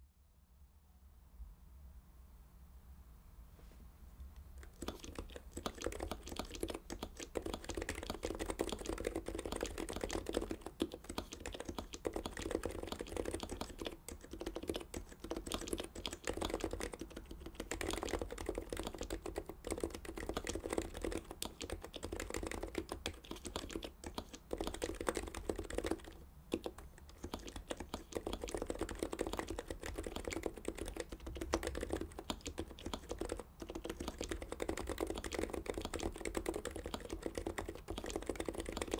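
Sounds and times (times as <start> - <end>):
keyboard typing: 4.6 - 38.9.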